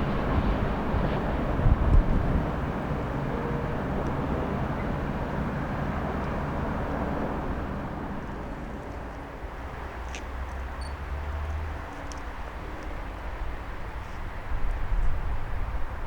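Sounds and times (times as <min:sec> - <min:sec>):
passing train rumble: 0:00.0 - 0:16.0.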